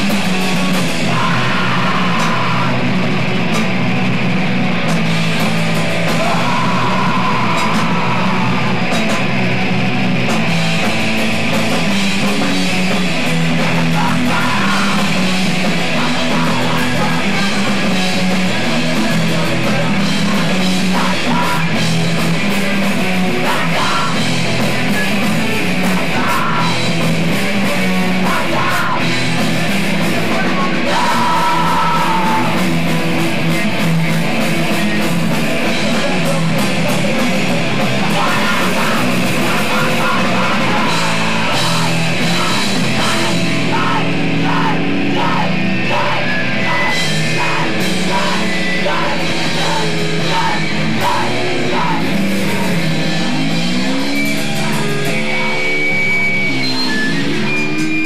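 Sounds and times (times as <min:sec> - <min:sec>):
bending electric guitar notes: 0:00.0 - 0:58.0
live rock band playing: 0:00.0 - 0:58.0.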